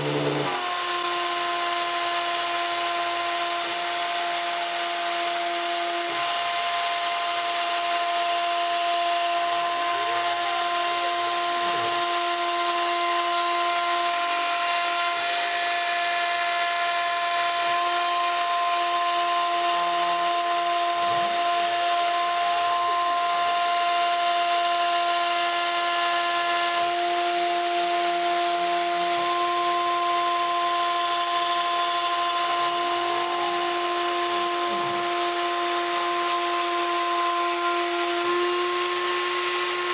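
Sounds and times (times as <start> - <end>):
router spindle milling metal: 0.0 - 39.9.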